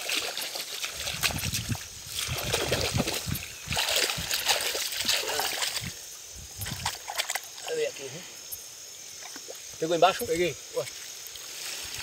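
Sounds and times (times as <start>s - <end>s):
muddy water splashing and sloshing: 0.0s - 8.1s, 9.2s - 12.0s.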